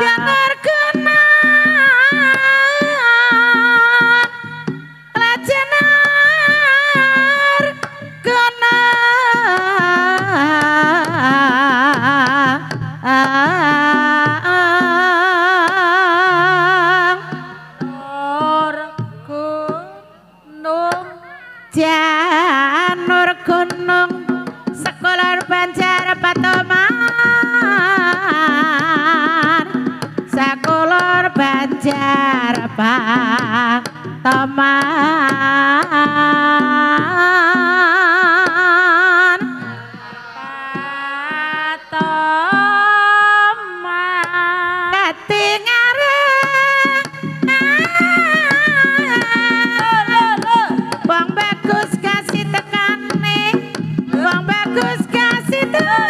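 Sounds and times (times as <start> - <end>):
woman singing with vibrato: 0.0 - 56.0.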